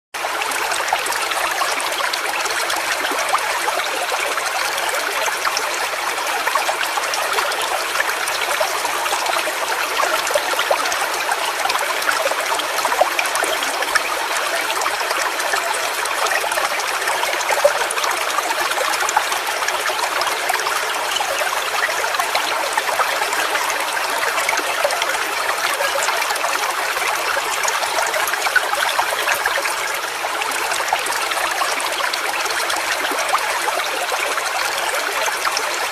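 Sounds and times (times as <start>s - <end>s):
stream running over rocks: 0.2s - 35.9s.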